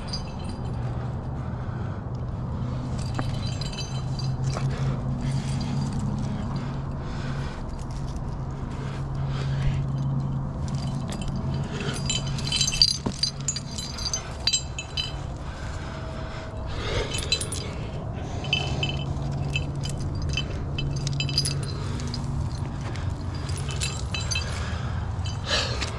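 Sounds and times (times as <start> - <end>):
metal climbing gear jingling: 0.0 - 1.6, 2.2 - 25.9.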